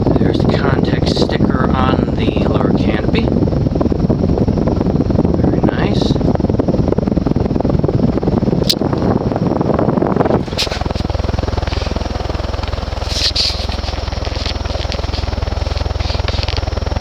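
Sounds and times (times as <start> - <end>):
ceiling fan motor hum: 0.0 - 17.0
whoosh of air from fan blades: 0.0 - 17.0.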